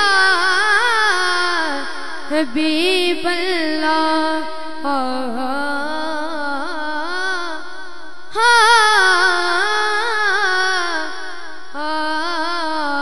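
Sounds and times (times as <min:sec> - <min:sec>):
boy singing unaccompanied: 0:00.0 - 0:07.7, 0:08.3 - 0:13.0.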